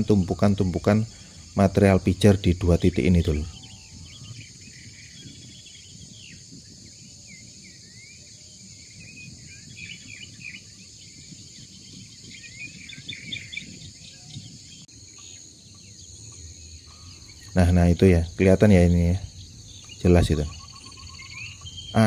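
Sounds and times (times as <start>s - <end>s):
bird chirps: 0.0s - 22.0s
high insect drone: 0.0s - 22.0s.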